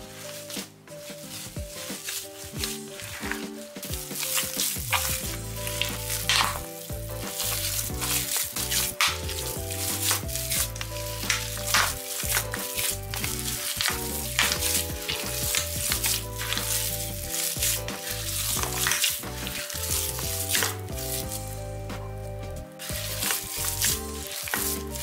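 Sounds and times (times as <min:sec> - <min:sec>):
hands squelching wet mixture: 0:00.0 - 0:25.0
soft background music: 0:00.0 - 0:25.0.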